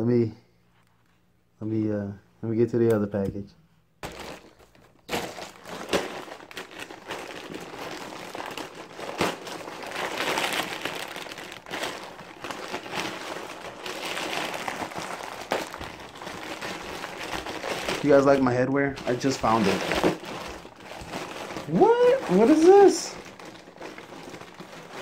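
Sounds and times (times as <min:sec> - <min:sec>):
plastic bag crinkling and rustling: 0:04.0 - 0:25.0.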